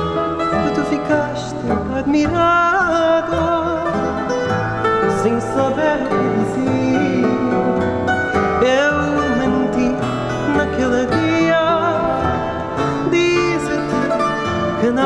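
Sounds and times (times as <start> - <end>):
bass: 0.0 - 15.0
classical guitar: 0.0 - 15.0
man singing: 0.0 - 15.0
plucked guitar: 0.0 - 15.0.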